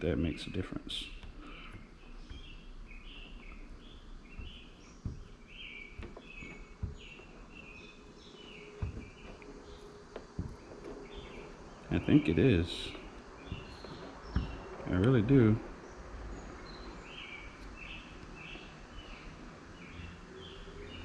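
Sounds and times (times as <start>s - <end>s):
bird chirping: 0.0s - 21.0s
soft handling knocks: 1.1s - 20.1s.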